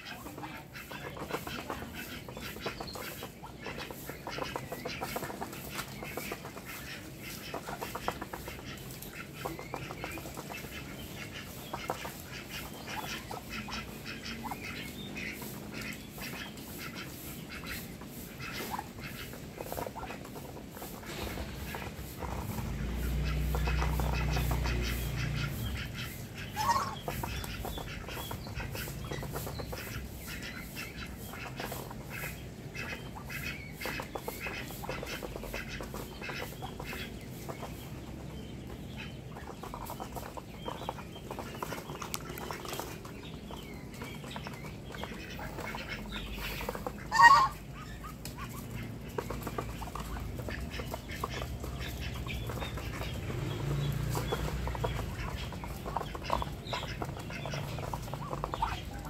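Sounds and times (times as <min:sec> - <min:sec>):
ducks dabbling and tapping: 0:00.0 - 0:59.0.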